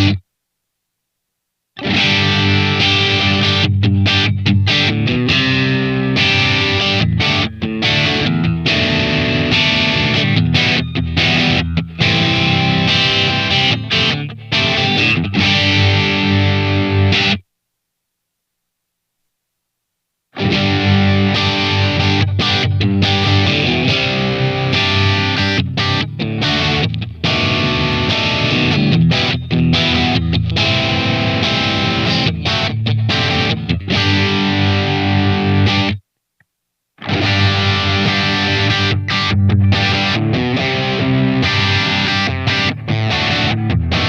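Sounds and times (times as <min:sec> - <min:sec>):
distorted electric guitar riff: 0:00.0 - 0:00.4, 0:01.8 - 0:17.5, 0:20.3 - 0:36.1, 0:37.0 - 0:44.0.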